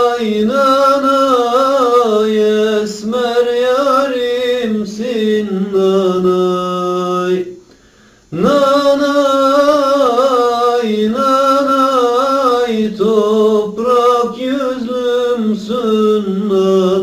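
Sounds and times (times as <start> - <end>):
man singing unaccompanied: 0.0 - 7.7, 8.3 - 17.0.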